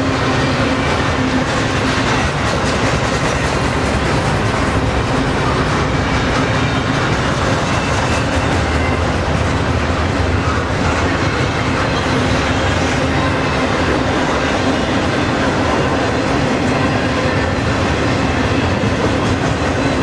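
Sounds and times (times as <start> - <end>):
steel train wheels on rails: 0.0 - 20.0.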